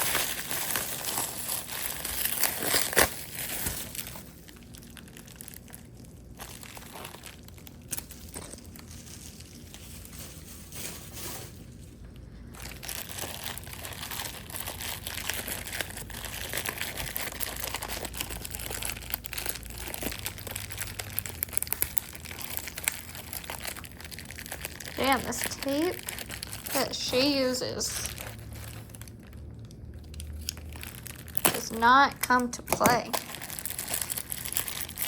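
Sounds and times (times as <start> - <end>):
packing wrap and tape crinkling: 0.0 - 35.0.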